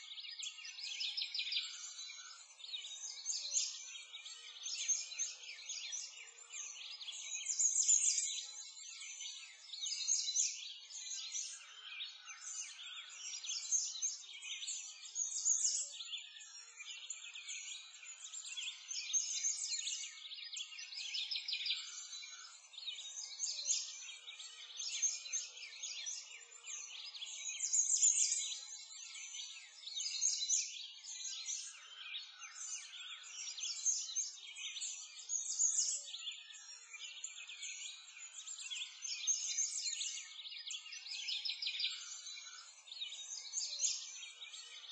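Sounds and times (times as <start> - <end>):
songbirds chirping: 0.0 - 44.9.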